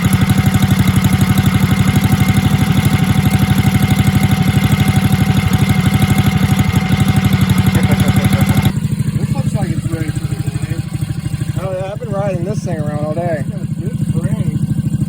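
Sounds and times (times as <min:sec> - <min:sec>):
minibike engine idling: 0:00.0 - 0:15.0.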